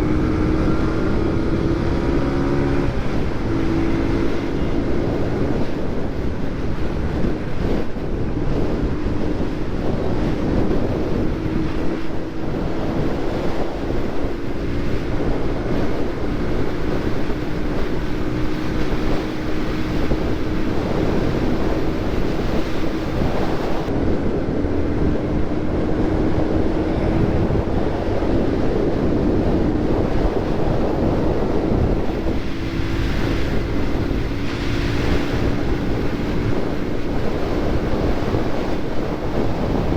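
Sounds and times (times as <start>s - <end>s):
motorcycle engine hum: 0.0s - 39.9s
wind rushing over microphone: 0.0s - 39.9s.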